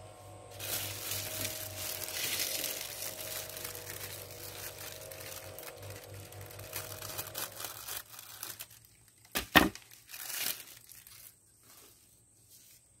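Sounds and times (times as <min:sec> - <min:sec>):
scissors cutting plastic bag: 0:00.5 - 0:11.4
plastic ripping rustle: 0:00.5 - 0:12.0.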